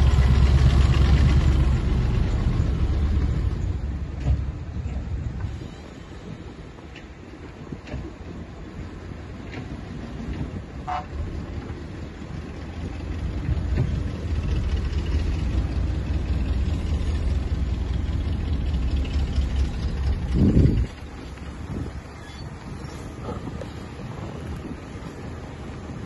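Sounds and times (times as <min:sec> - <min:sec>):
diesel engine rumble: 0:00.0 - 0:26.0.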